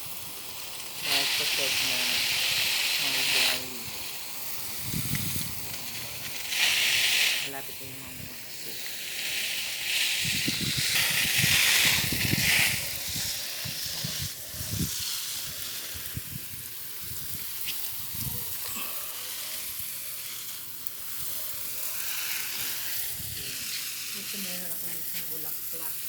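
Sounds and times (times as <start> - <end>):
water spraying onto plants: 0.0 - 26.0.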